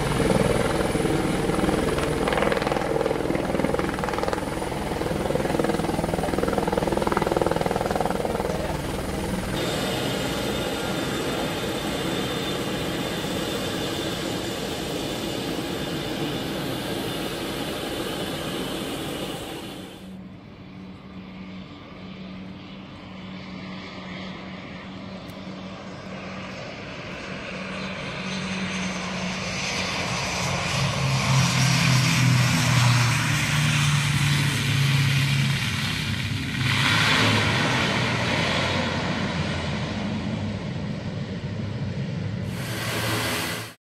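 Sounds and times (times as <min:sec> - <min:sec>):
propeller airplane engines droning: 0:00.0 - 0:43.8.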